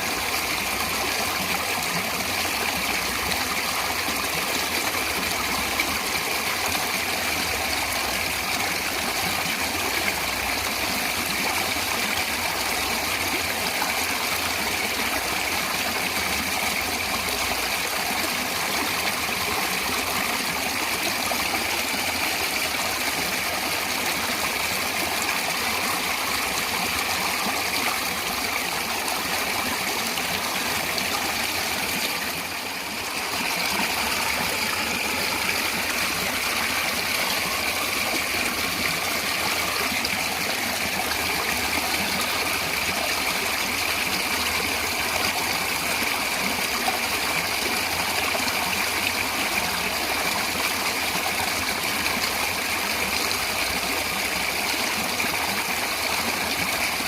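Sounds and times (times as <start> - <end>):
running stream water: 0.0 - 57.0.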